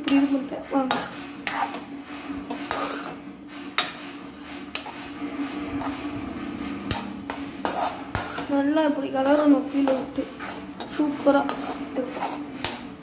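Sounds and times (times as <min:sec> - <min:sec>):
spatula scraping metal wok: 0:00.0 - 0:13.0
steady low hum: 0:00.0 - 0:13.0.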